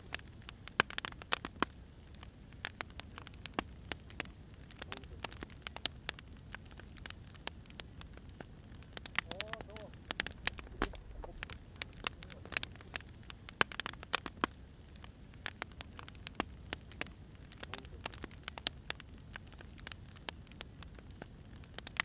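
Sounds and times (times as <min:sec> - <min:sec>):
low rumble of flames: 0:00.0 - 0:22.0
pops and snaps of burning firewood: 0:00.0 - 0:22.0
wood fire crackling: 0:00.0 - 0:22.0.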